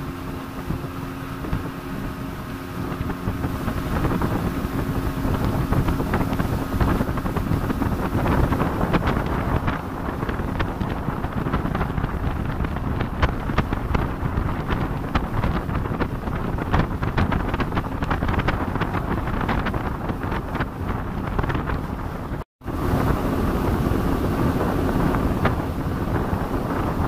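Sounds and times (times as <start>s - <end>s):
speedboat engine: 0.0s - 27.0s
wind buffeting microphone: 0.0s - 27.0s.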